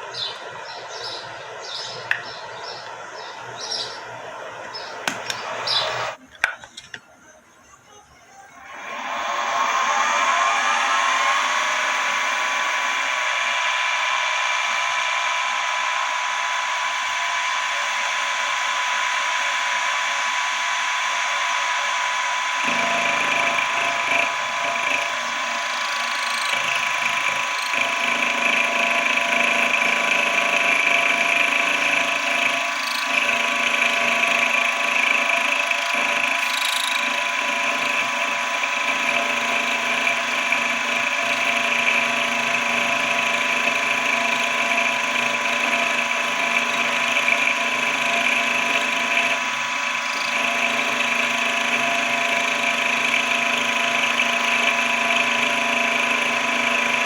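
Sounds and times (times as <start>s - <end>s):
machine tool motor whine: 0.0s - 57.0s.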